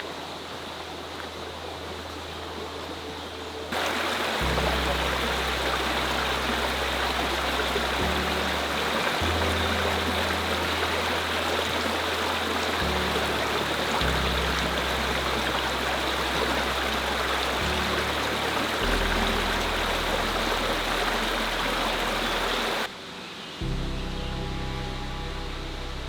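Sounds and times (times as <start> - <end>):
river water rushing: 0.0 - 23.6
calm ambient music: 0.0 - 26.0.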